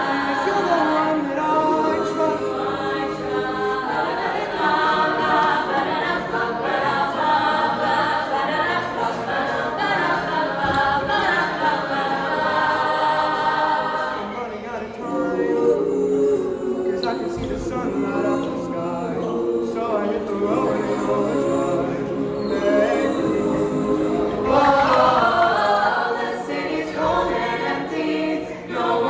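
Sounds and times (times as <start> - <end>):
choir singing a cappella: 0.0 - 29.0.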